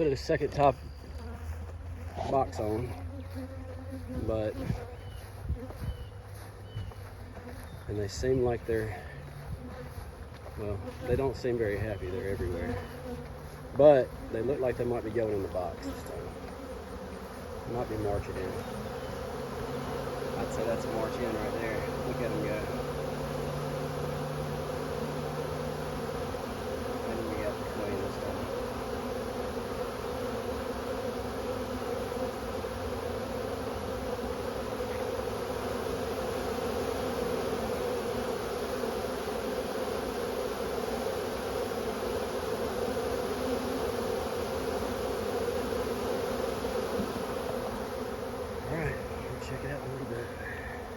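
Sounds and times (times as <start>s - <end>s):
bee swarm buzzing: 0.0s - 50.9s.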